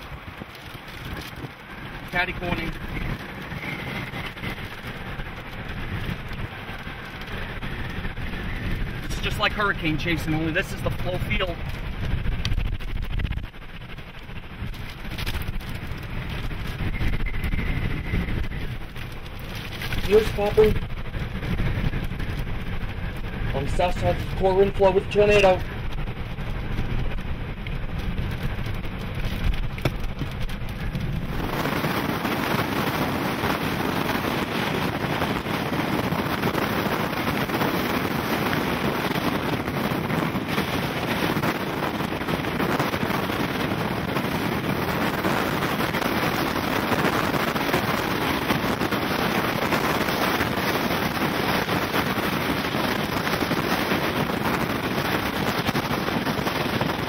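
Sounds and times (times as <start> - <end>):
wind roaring over microphone: 0.0 - 57.0.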